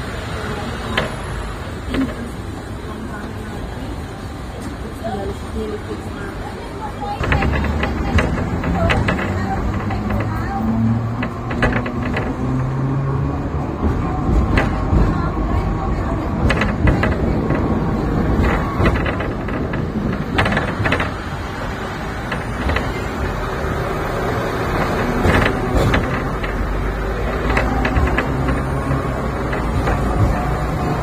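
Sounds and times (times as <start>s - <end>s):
tram rumbling on tracks: 0.0s - 31.0s
wheels and car body rattling: 0.0s - 31.0s.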